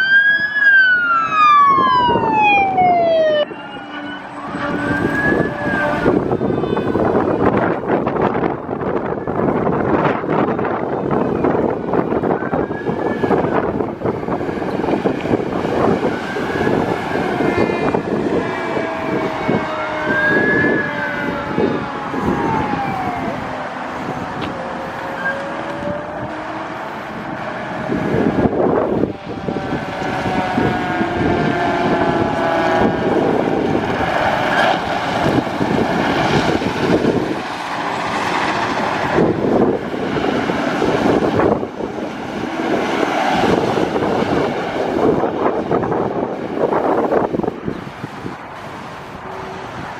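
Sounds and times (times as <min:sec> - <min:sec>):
mechanical siren wailing: 0:00.0 - 0:47.8
truck engines rumbling: 0:00.0 - 0:49.9.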